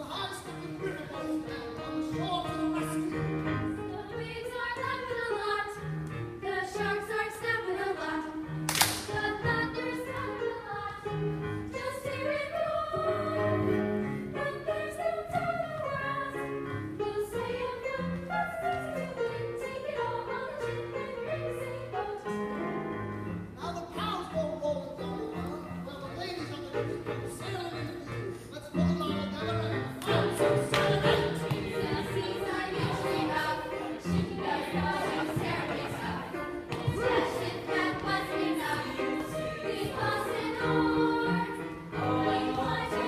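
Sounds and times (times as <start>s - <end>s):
group singing with accompaniment: 0.3s - 22.9s, 29.7s - 43.0s.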